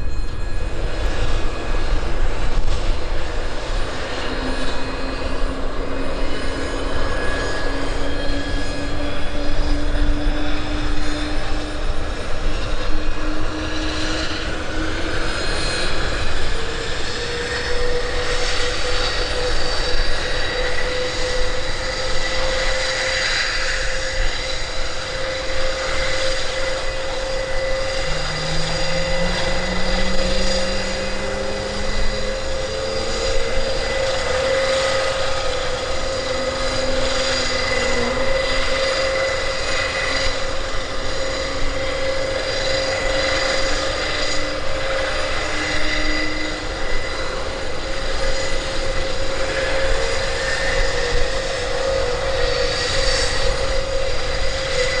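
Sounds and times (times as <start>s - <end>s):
engine spooling up: 0.0s - 55.0s
turbine whine: 0.0s - 55.0s.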